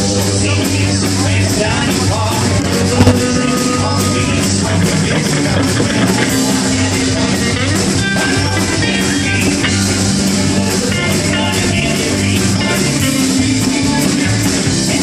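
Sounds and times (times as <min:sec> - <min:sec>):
drums keeping steady beat: 0:00.0 - 0:15.0
electric bass: 0:00.0 - 0:15.0
electric guitars: 0:00.0 - 0:15.0.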